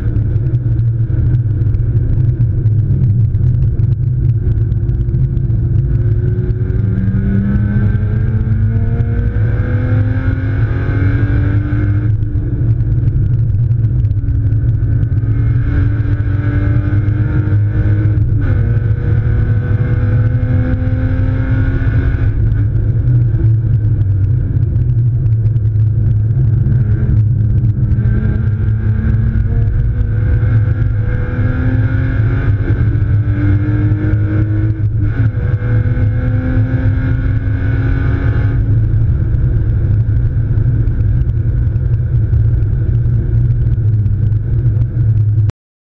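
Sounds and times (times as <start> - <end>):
car engine: 0.0 - 45.5
road and wind noise: 0.0 - 45.5.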